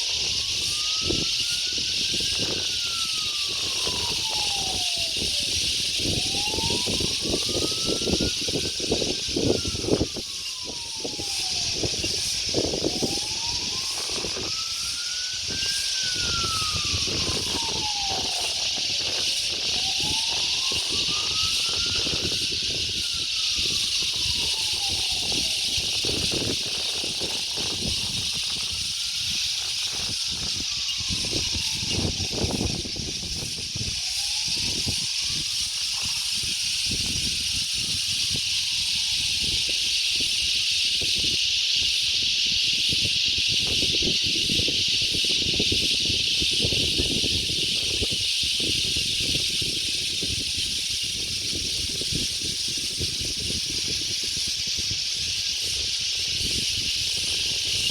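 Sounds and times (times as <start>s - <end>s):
steady high-pitched hiss: 0.0s - 57.9s
wind buffeting microphone: 0.0s - 57.9s.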